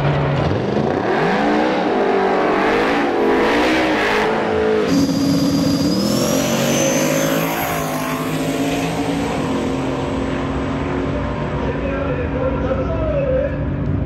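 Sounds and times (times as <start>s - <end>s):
drag race car engines: 0.0s - 14.0s.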